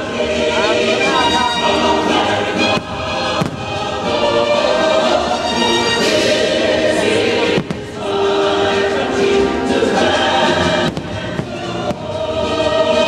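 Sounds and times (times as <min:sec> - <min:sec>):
choir with orchestra over loudspeakers: 0:00.0 - 0:13.0.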